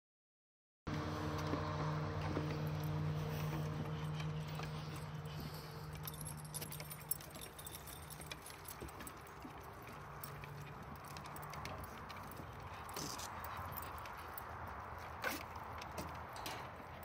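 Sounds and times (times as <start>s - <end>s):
footsteps on wooden boardwalk: 0.9s - 17.0s
dog paws clicking on boards: 1.0s - 17.0s.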